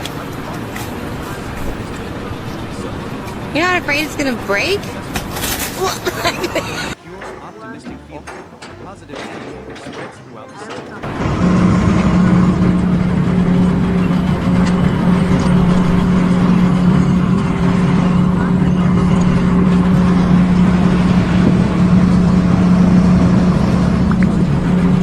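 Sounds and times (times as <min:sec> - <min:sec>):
engine humming steadily: 0:00.0 - 0:07.3, 0:11.0 - 0:25.0.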